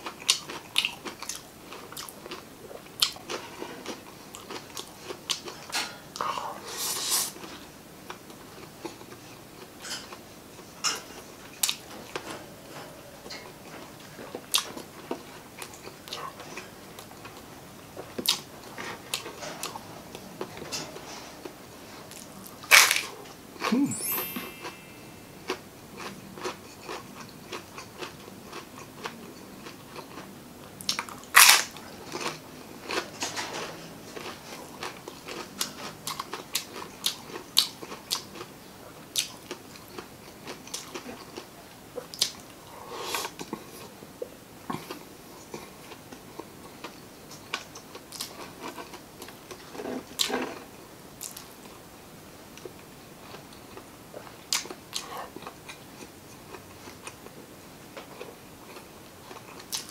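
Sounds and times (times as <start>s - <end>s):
chewing and crunching crispy food: 0.0s - 23.4s, 24.5s - 51.9s, 52.6s - 59.9s.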